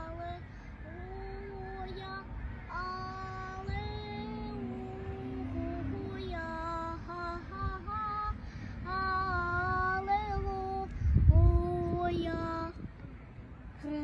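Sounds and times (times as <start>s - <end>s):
child singing: 0.0s - 12.9s, 13.8s - 14.0s.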